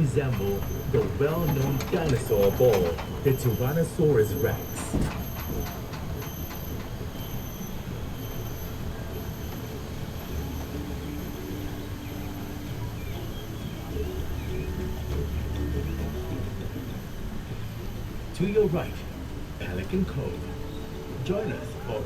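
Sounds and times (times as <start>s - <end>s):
tram motor and wheels rumbling: 0.0s - 22.0s.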